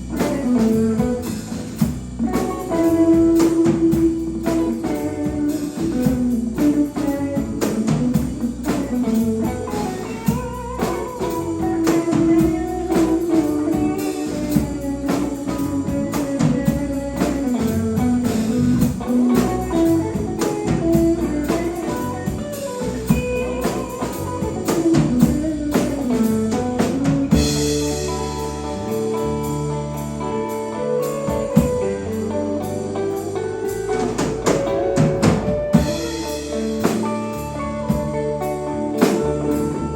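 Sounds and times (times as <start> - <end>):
lead guitar: 0.0 - 39.9
live band playing: 0.0 - 39.9.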